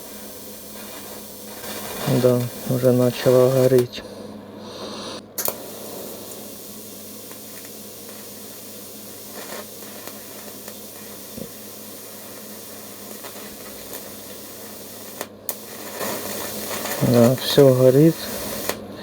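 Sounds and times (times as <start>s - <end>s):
welding arc hissing: 0.0s - 19.0s.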